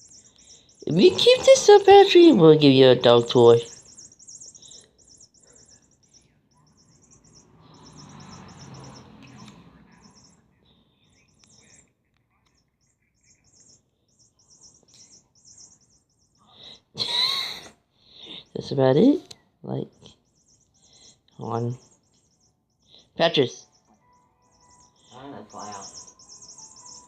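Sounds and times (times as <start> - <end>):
pet bird chirping: 0.0 - 27.0.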